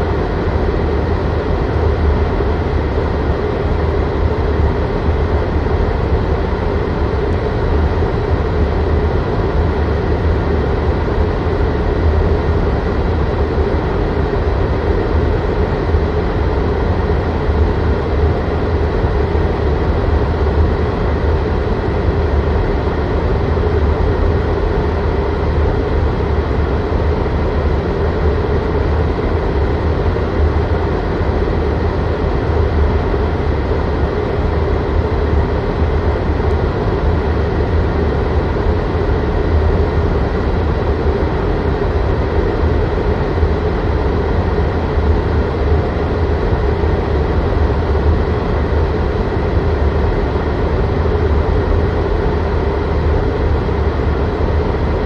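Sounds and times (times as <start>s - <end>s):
heater blower fan rushing air: 0.0s - 55.0s.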